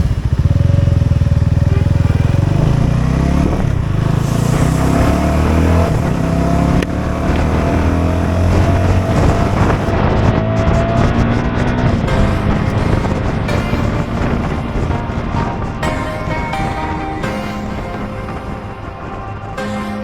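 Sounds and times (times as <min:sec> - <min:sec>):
motorcycle engine accelerating: 0:00.0 - 0:19.3.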